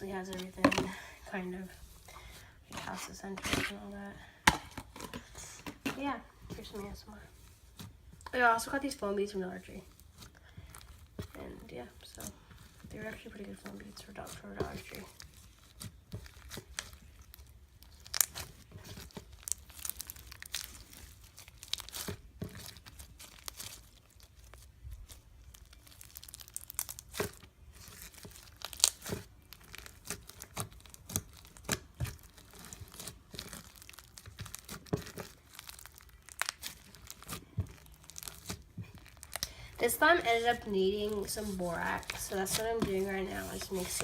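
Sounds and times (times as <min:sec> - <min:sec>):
foam slime crackling and popping: 0:00.0 - 0:44.0.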